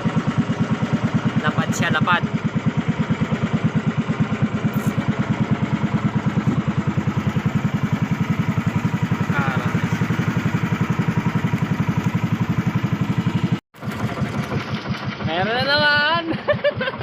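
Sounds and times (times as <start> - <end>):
boat engine chugging: 0.0 - 17.0.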